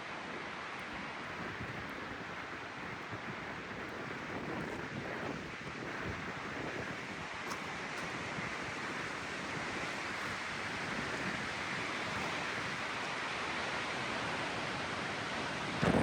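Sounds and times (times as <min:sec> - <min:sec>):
wind blowing hard: 0:00.3 - 0:13.1, 0:14.4 - 0:16.0.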